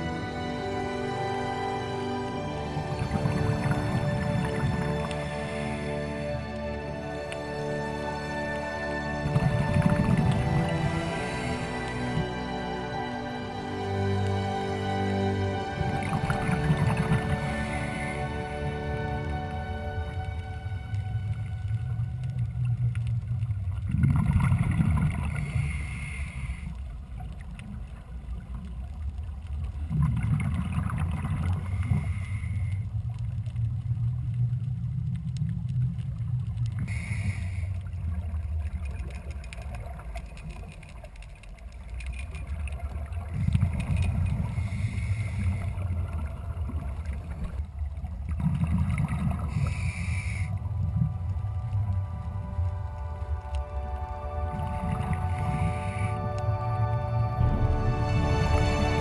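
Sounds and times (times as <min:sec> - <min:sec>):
exhaled regulator bubbles: 0:00.0 - 0:59.0
steady low underwater rumble: 0:00.0 - 0:59.0.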